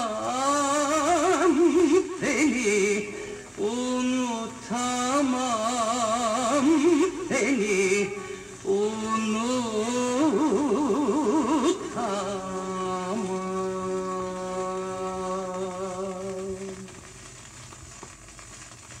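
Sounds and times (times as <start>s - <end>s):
art song from vinyl record: 0.0s - 19.0s
record surface hiss: 0.0s - 19.0s.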